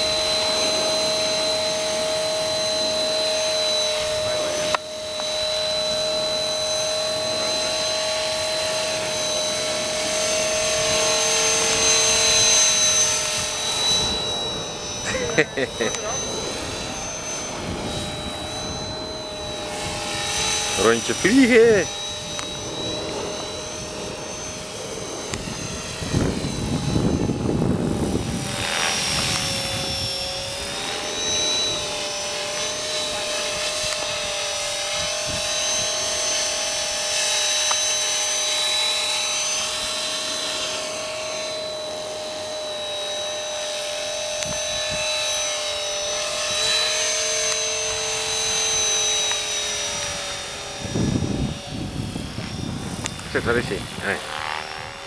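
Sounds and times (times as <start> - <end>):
model helicopter motor whine: 0.0 - 55.0.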